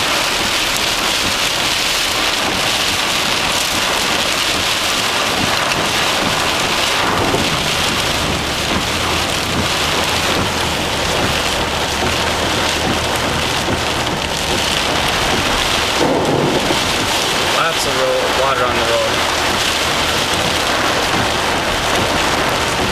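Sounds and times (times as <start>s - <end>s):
heavy rain pelting down: 0.0s - 22.9s.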